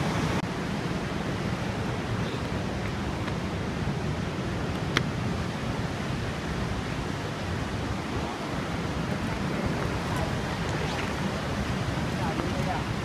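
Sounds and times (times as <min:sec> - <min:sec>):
water cascading over rocks: 0:00.0 - 0:13.0.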